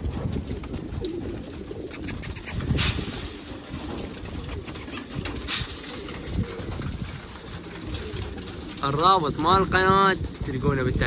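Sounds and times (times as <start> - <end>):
pigeons cooing: 0.0 - 10.4.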